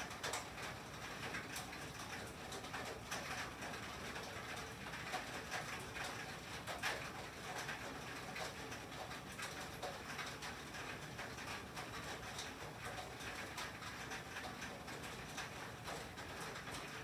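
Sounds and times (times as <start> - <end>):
rain and sleet on a tin roof: 0.0 - 17.0.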